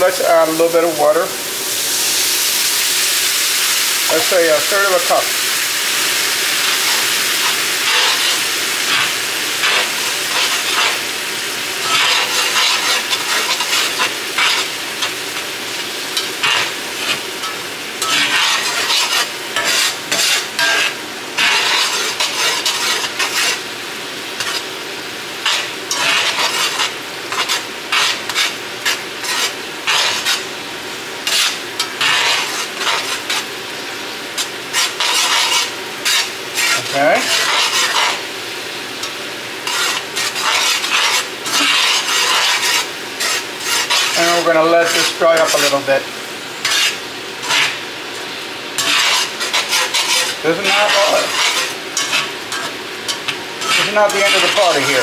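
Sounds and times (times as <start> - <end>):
mushrooms sizzling in a skillet: 0.0 - 55.0
metal spatula scraping a pan: 6.6 - 23.7, 24.3 - 24.8, 25.4 - 30.5, 31.2 - 38.3, 39.0 - 55.0.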